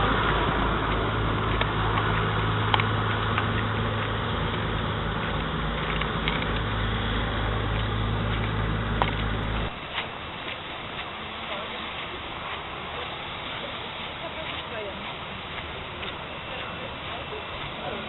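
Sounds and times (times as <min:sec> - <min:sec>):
boat engine humming: 0:00.0 - 0:18.0
water noise: 0:00.0 - 0:18.0.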